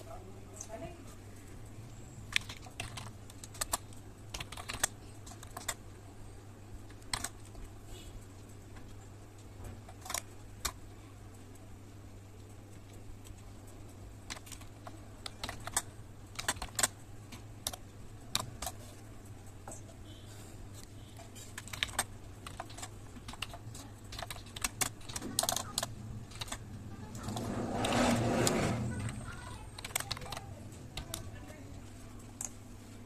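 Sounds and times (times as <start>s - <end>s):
low steady hum: 0.0s - 33.0s
computer keyboard typing: 2.2s - 5.8s, 6.8s - 7.8s, 9.7s - 11.7s, 12.4s - 32.6s.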